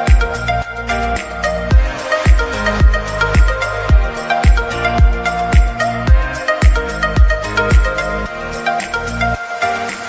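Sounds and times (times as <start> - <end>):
music with low thumping beat: 0.0 - 10.0.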